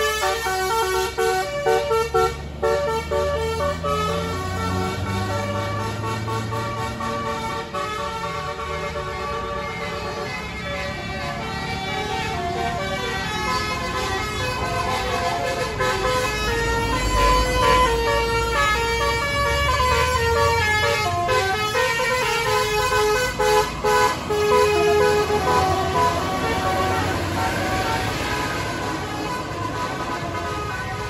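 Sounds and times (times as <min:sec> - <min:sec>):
bus horn playing a melody: 0:00.0 - 0:31.0
deep engine rumble: 0:00.0 - 0:31.0.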